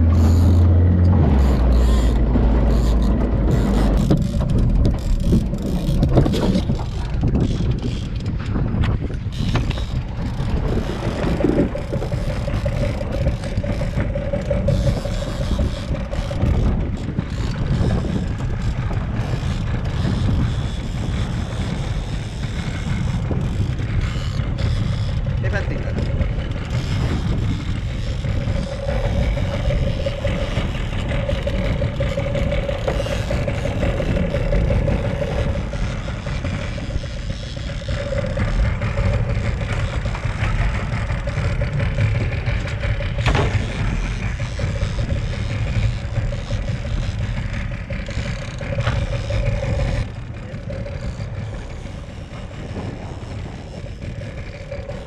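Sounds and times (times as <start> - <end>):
outboard motor running: 0.0 - 55.0
wind buffeting microphone: 0.0 - 55.0.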